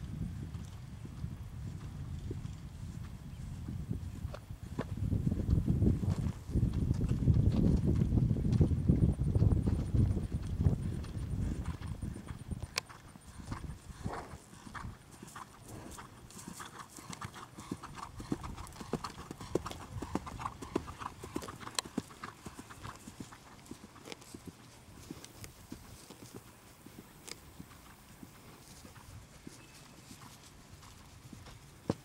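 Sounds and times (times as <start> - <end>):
horse hoofbeats on grass: 0.0 - 32.0.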